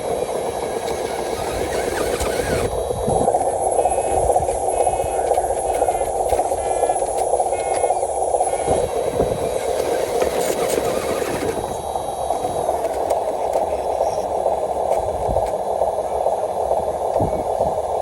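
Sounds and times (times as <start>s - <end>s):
toy truck motor whirring: 0.0s - 15.6s.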